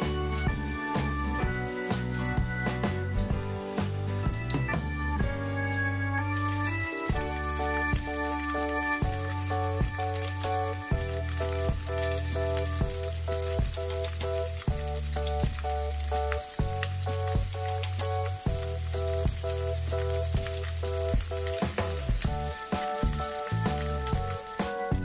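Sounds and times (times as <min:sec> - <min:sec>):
food sizzling in hot oil: 0:00.0 - 0:05.5, 0:06.2 - 0:25.0
background music with beat: 0:00.0 - 0:25.0.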